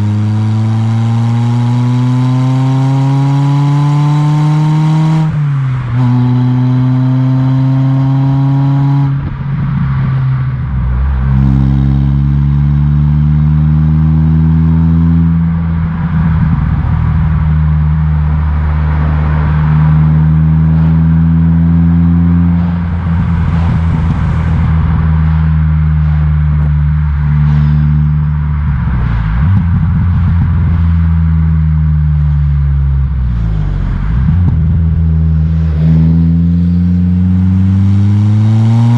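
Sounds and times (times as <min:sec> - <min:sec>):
car engine accelerating through gears: 0:00.0 - 0:38.9
exhaust crackling: 0:00.0 - 0:38.9.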